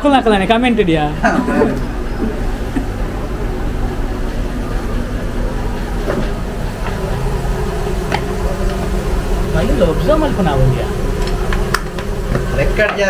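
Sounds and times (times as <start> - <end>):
gas stove burner rumbling: 0.0 - 13.0.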